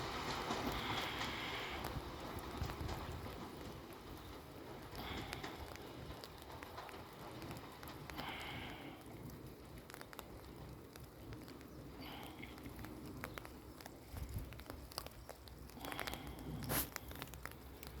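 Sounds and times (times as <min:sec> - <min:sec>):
light rain pattering: 0:00.0 - 0:18.0.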